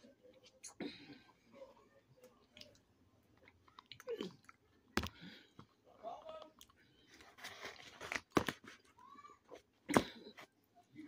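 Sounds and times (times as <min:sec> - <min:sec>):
chewing and crunching food: 0:00.0 - 0:09.0.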